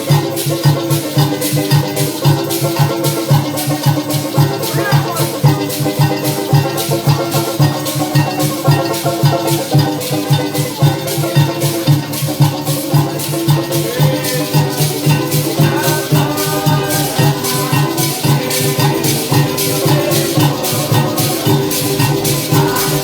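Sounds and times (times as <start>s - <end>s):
band playing live music: 0.0s - 23.0s
high percussion: 0.0s - 23.0s.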